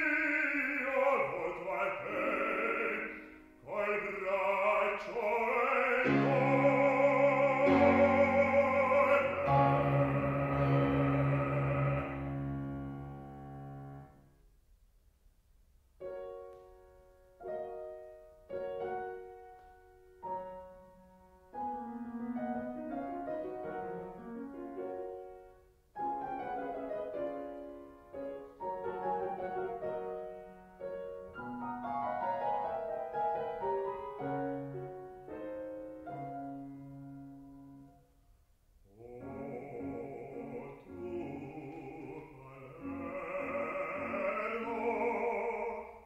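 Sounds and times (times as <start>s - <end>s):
grand piano playing: 0.0s - 14.4s, 16.0s - 38.2s, 39.0s - 46.0s.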